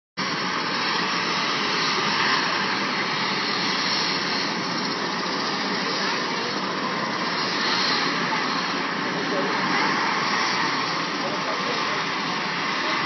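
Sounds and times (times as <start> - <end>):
helicopter engine and rotor: 0.2 - 13.0.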